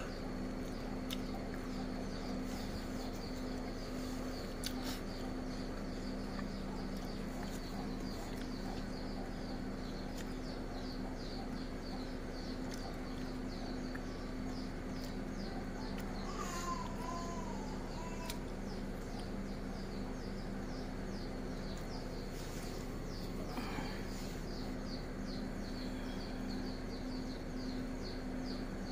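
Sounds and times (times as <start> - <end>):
small bird chirping: 0.0 - 28.9
steady low hum: 0.0 - 28.9.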